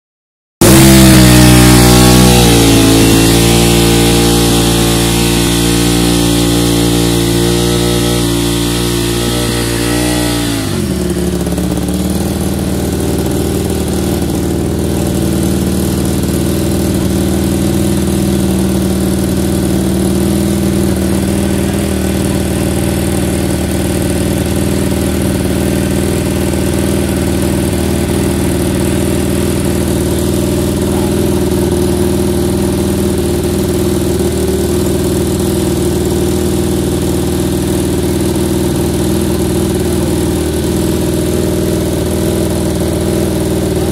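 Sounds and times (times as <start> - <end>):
engine idling: 0.6 - 43.9.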